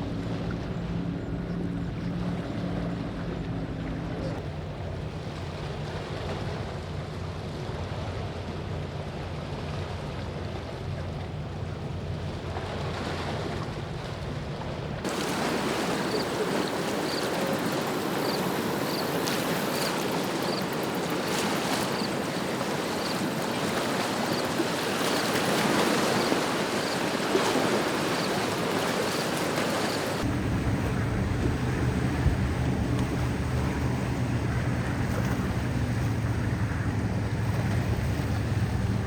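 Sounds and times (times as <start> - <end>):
boat engine rumbling: 0.0 - 39.0
rush of water and wind: 0.0 - 39.0.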